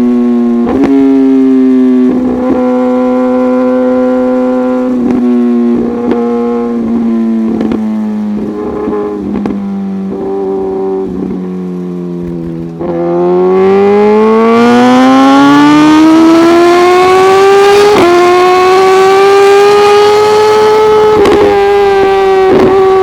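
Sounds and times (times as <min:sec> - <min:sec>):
motorcycle accelerating hard: 0:00.0 - 0:23.0
quickshifter upshifts: 0:00.0 - 0:23.0.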